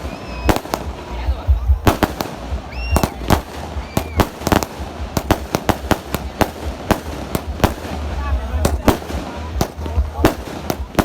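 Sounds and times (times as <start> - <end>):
fireworks cake firing shots: 0.0 - 11.0.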